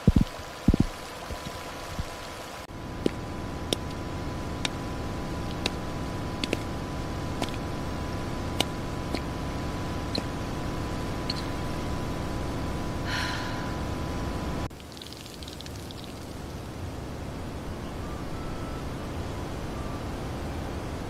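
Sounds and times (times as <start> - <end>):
faint high hum: 0.0 - 21.0
low outdoor rumble: 0.0 - 21.0.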